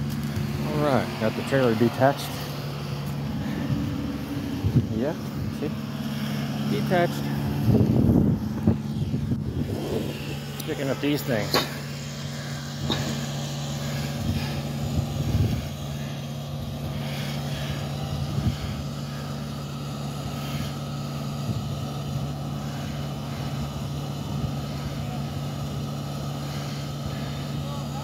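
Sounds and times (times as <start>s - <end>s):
large engine idling: 0.0s - 28.0s.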